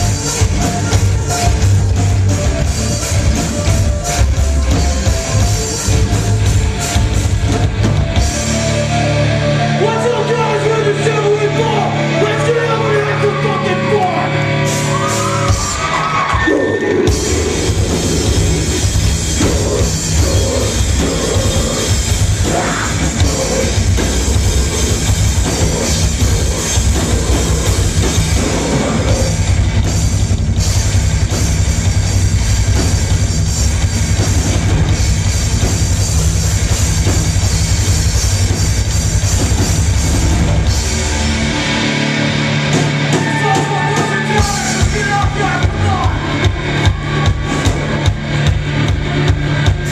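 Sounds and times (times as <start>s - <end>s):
heavy rock band playing: 0.0s - 49.9s.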